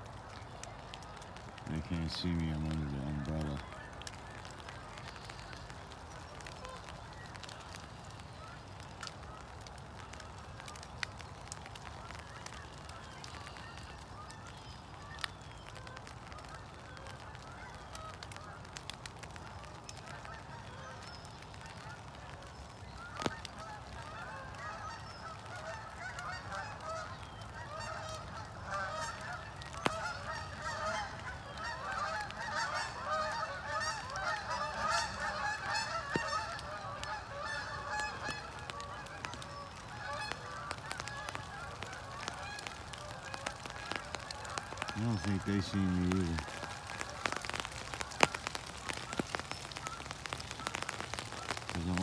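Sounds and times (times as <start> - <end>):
rain hissing: 0.0 - 52.0
geese honking: 0.1 - 10.8, 11.6 - 52.0.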